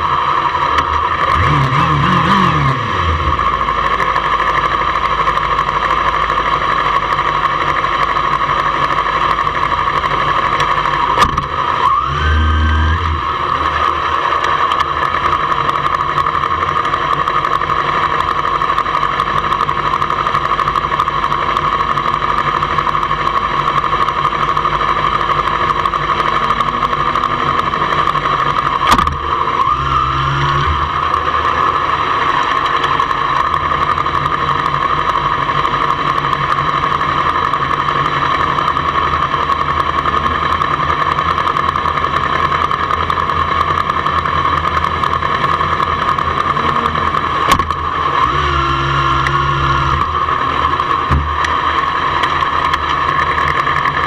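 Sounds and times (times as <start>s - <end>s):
motorcycle engine idling: 0.0s - 54.0s
motorcycle engine revving: 0.0s - 54.0s.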